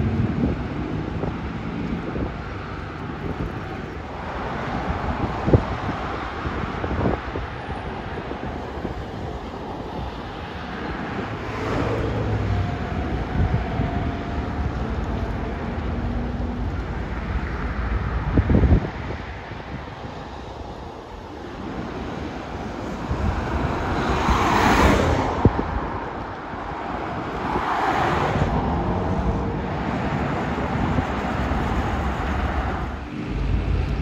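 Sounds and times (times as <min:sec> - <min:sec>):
cars driving past: 0:00.0 - 0:34.0
wind on microphone: 0:00.0 - 0:34.0.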